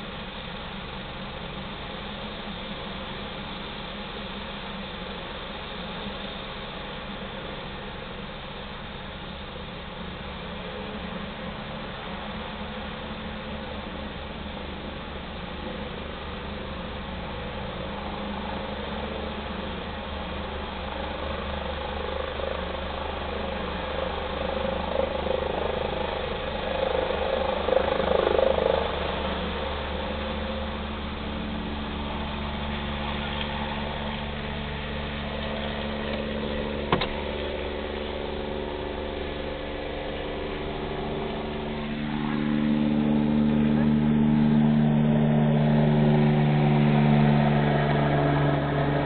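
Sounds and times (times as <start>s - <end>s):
helicopter flying low: 0.0s - 49.0s
idling car hum: 0.0s - 49.0s.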